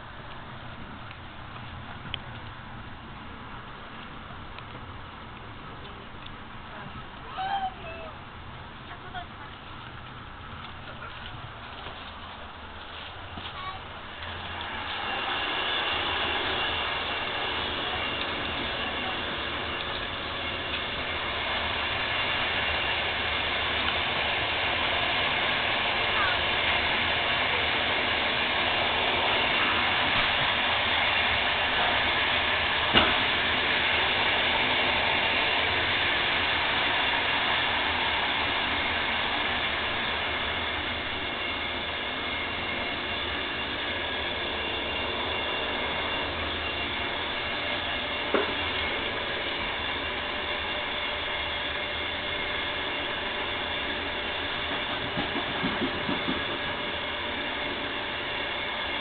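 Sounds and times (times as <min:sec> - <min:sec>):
train rail hum: 0:00.0 - 0:59.0.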